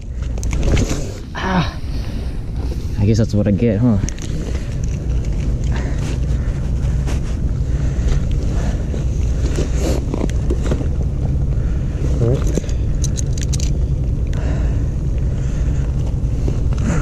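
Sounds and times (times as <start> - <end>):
gloves and clothing rustling: 0.0 - 17.0.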